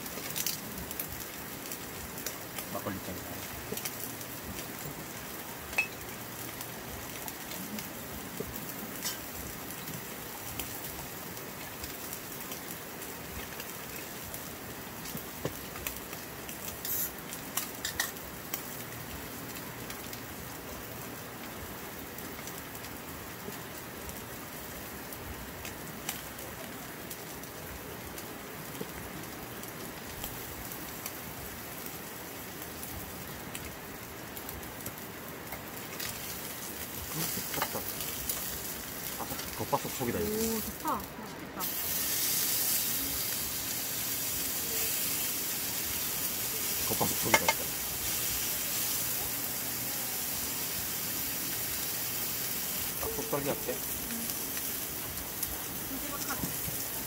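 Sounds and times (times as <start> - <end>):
meat sizzling on a griddle: 0.0 - 57.0.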